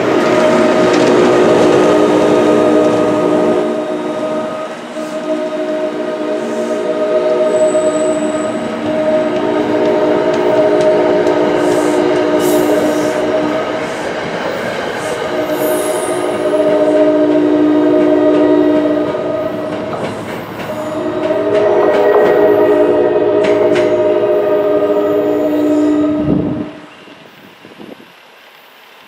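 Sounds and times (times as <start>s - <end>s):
train horn blasts: 0.0s - 27.3s
train cars rumbling and clattering: 0.0s - 28.5s.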